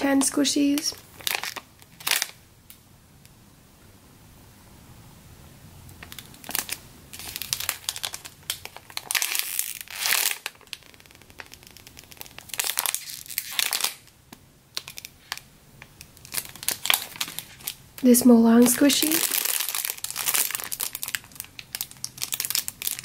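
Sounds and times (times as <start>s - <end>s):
plastic bags crinkling: 0.0s - 2.4s, 6.0s - 23.0s.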